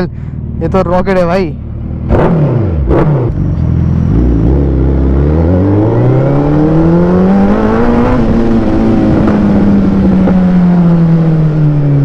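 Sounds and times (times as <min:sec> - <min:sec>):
motorcycle accelerating: 0:00.0 - 0:12.0
motorcycle engine revving: 0:00.0 - 0:12.0.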